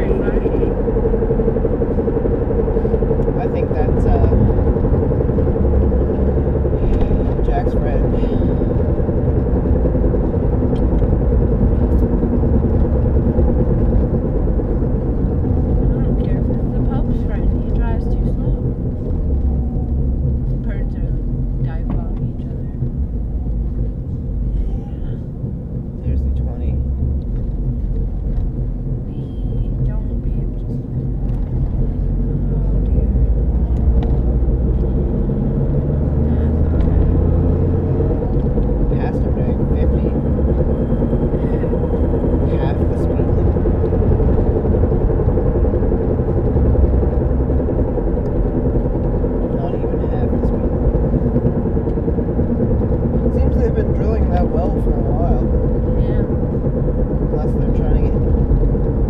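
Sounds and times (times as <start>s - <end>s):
car driving low drone: 0.0s - 59.0s
road noise: 0.0s - 59.0s.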